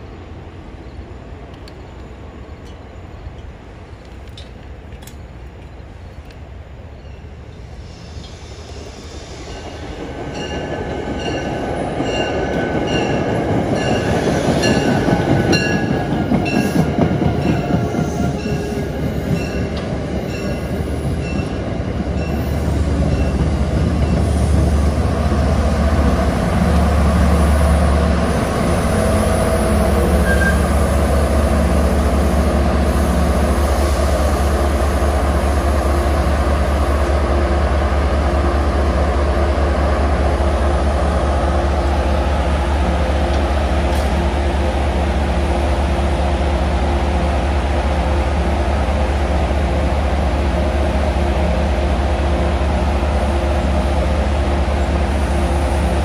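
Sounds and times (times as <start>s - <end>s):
diesel locomotive engine drone: 0.0s - 56.0s
train coaches rolling past: 0.0s - 56.0s.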